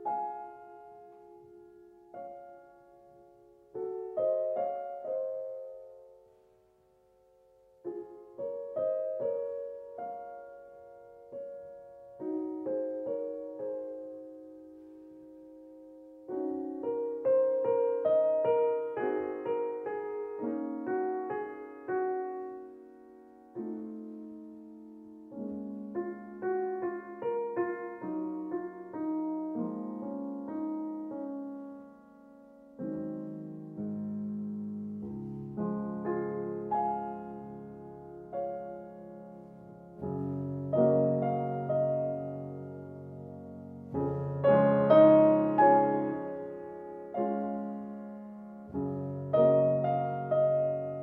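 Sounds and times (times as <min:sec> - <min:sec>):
slow piano music: 0:00.0 - 0:51.0.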